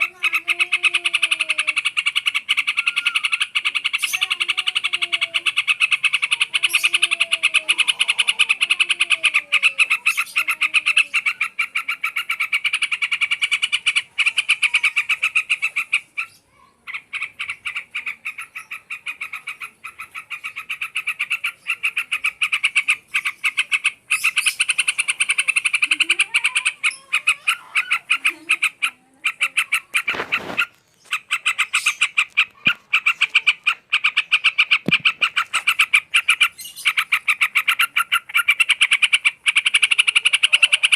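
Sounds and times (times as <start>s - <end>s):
bird chattering: 0.0s - 40.9s.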